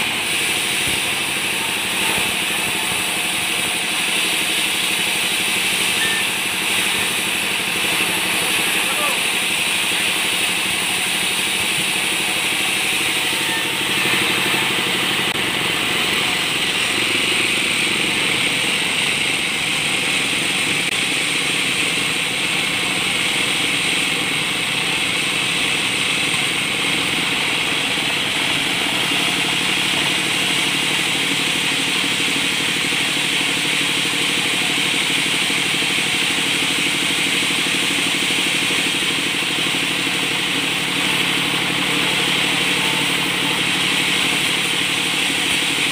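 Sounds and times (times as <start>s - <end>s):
sawmill saw cutting timber: 0.0s - 45.9s.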